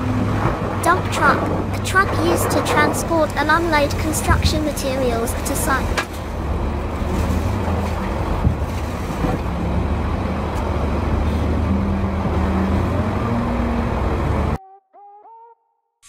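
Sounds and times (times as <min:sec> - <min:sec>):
road noise: 0:00.0 - 0:14.6
truck engine rumbling: 0:00.0 - 0:14.6.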